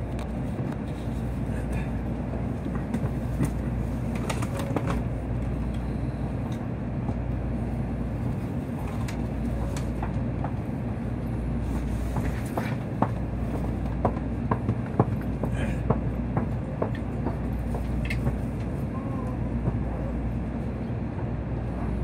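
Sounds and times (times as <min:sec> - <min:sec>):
low hum inside train car: 0:00.0 - 0:22.0.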